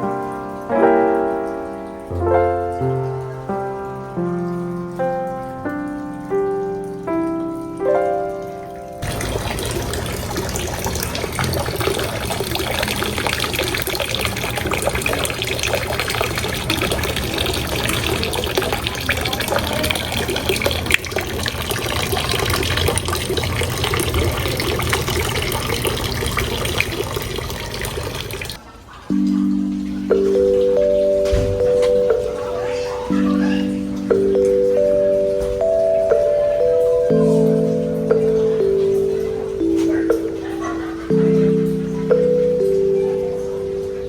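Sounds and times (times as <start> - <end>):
running splashing water: 0.0 - 44.0.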